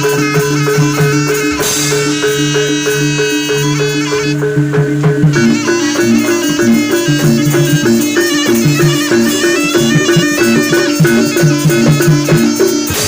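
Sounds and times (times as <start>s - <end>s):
drumming: 0.0s - 13.0s
gong-chime and metallophone notes: 0.0s - 13.0s
shawm playing a wavering melody: 0.0s - 13.0s.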